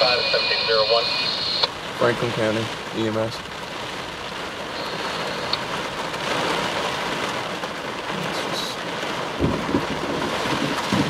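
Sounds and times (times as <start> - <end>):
heavy rain on a windshield: 0.0 - 11.0.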